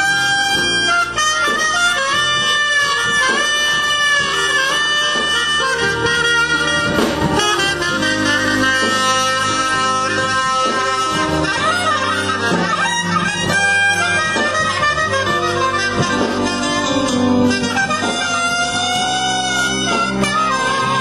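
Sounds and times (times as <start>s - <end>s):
backing music with bass line: 0.0s - 21.0s
soprano saxophone melody: 0.0s - 21.0s.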